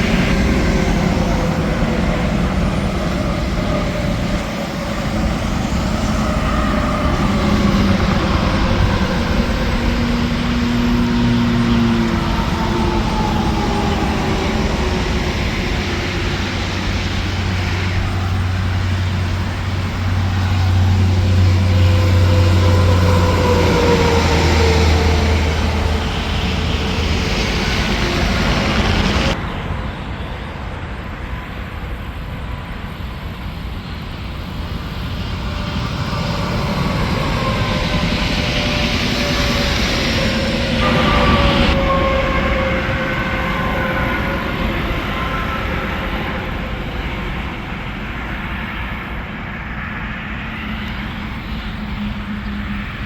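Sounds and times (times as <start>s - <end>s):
deep engine drone: 0.0s - 30.0s, 33.7s - 49.5s
highway traffic passing: 0.0s - 53.0s.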